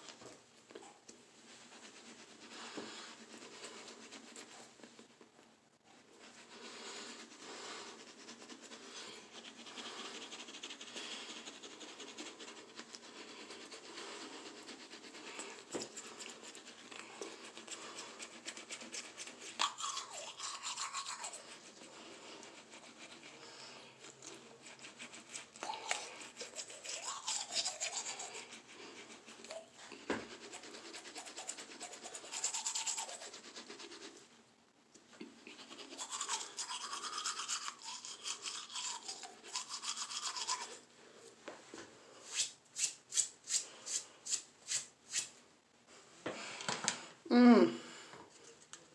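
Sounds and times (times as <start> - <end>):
toothbrush scrubbing teeth: 0.0 - 5.2, 6.0 - 34.3, 35.0 - 41.3.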